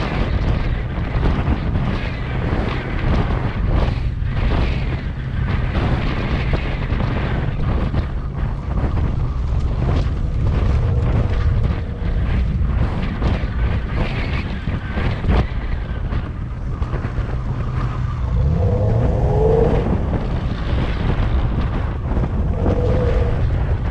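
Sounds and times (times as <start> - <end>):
vehicle running and tyre noise: 0.0 - 23.9
wind buffeting microphone: 0.0 - 23.9.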